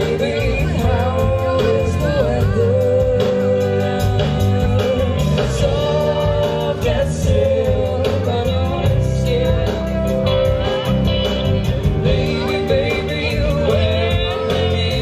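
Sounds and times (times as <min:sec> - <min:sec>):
drum kit beat: 0:00.0 - 0:15.0
electric guitars: 0:00.0 - 0:15.0
person singing: 0:00.0 - 0:15.0.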